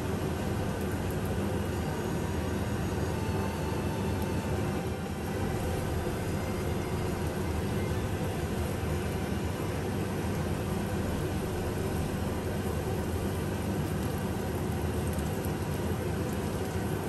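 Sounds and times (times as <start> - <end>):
ginger sizzling in hot oil: 0.0 - 17.0.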